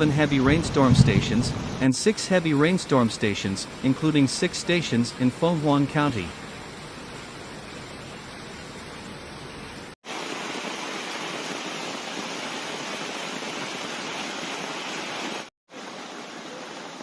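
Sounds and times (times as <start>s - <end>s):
flowing floodwater: 0.0s - 17.0s
heavy rain: 0.0s - 17.0s.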